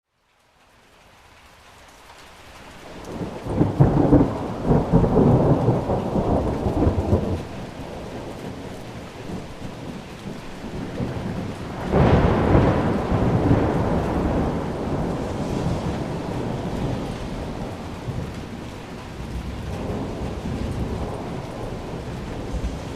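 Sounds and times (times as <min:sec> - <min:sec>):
heavy rain: 0:00.0 - 0:22.9
rolling thunder: 0:03.0 - 0:22.9.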